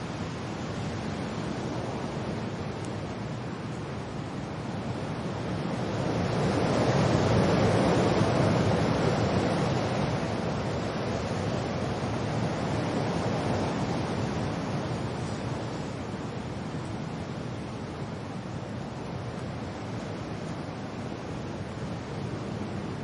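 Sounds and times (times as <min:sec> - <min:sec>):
wind and rain rushing: 0:00.0 - 0:23.0.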